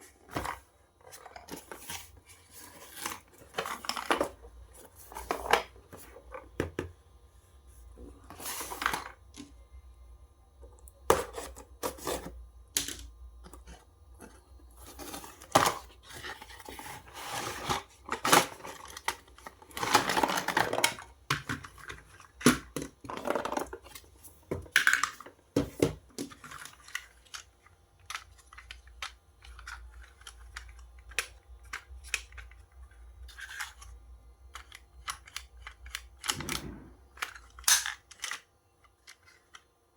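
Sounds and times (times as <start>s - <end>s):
packaging clicks and scrapes: 0.0s - 6.5s, 13.5s - 39.7s.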